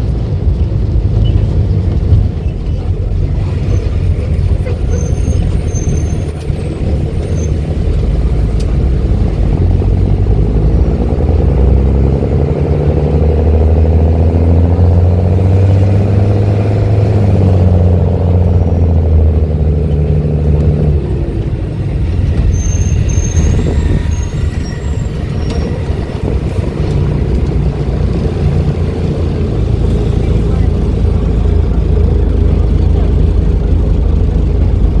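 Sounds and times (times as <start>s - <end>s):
bus diesel engine under load: 0.0s - 35.0s.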